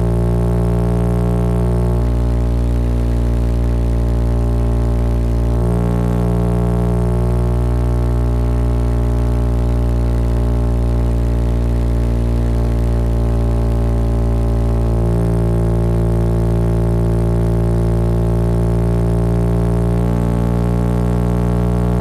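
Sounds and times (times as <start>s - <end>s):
motorcycle engine droning: 0.0s - 22.0s.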